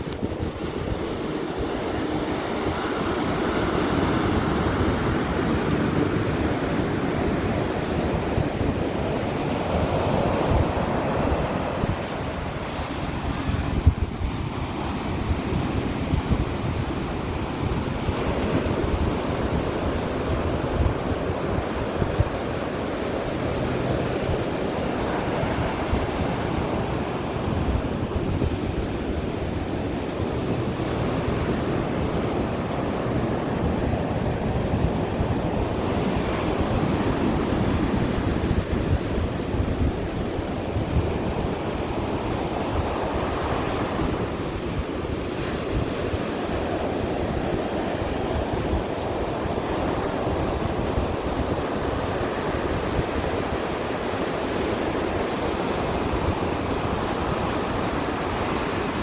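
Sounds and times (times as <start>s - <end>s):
ocean surf washing ashore: 0.0s - 59.0s
wind buffeting microphone: 0.0s - 59.0s.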